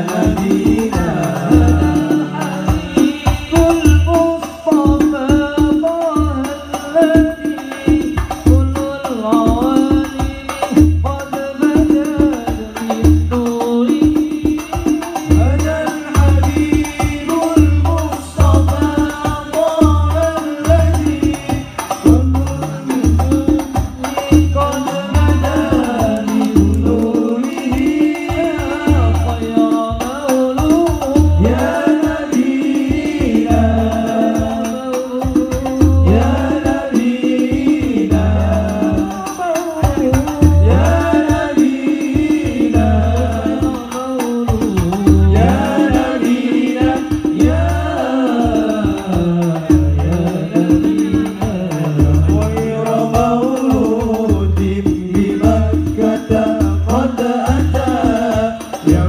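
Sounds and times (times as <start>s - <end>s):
deep drum beat: 0.0s - 59.0s
frame drums: 0.0s - 59.0s
jingling percussion: 0.0s - 59.0s
men singing devotional song: 0.0s - 59.0s.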